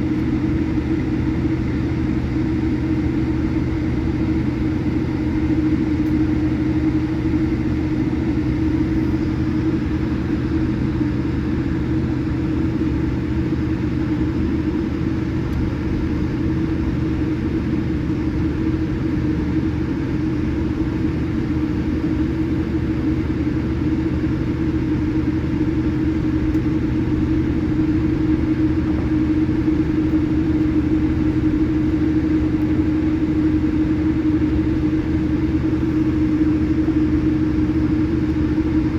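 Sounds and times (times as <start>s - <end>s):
airliner cabin engine rumble: 0.0s - 38.9s
steady hum: 0.0s - 38.9s.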